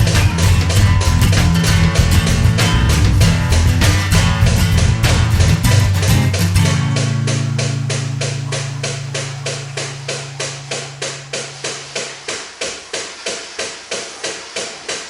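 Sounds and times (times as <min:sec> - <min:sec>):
held bass notes: 0:00.0 - 0:12.6
sharp percussive hits: 0:00.0 - 0:15.0.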